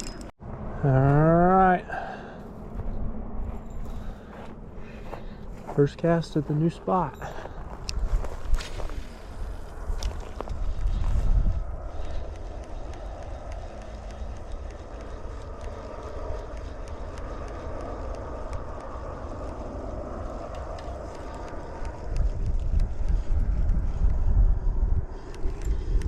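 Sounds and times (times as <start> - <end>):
steady rushing noise: 0.0 - 26.0
wind buffeting microphone: 0.0 - 26.0.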